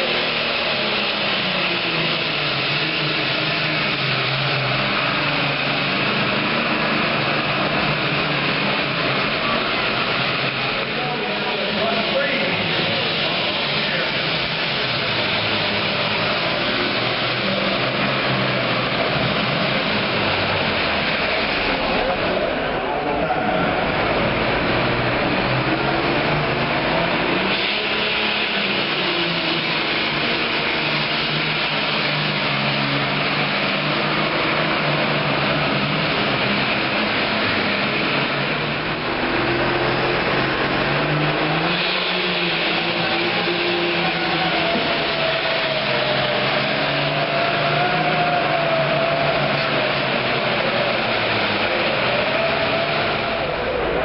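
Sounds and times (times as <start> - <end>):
diesel tractor engine running flat out: 0.0 - 54.0.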